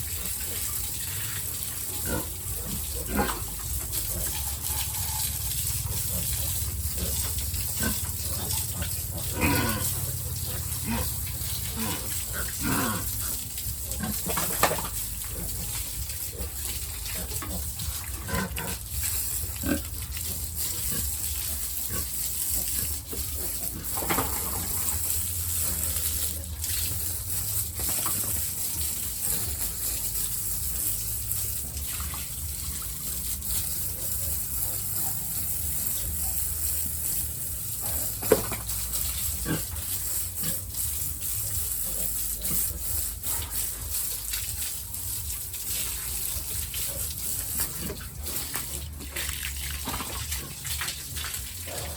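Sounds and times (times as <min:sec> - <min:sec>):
pigs grunting: 0:00.0 - 0:44.6, 0:45.7 - 0:51.9.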